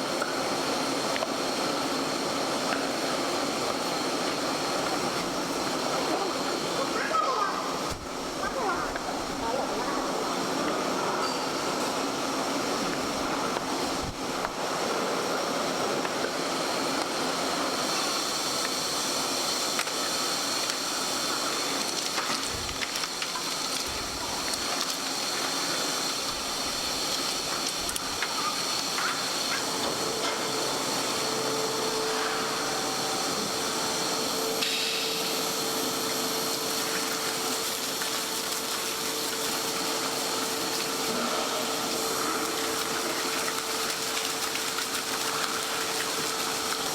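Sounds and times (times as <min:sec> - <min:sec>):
machinery hissing: 0:00.0 - 0:46.9.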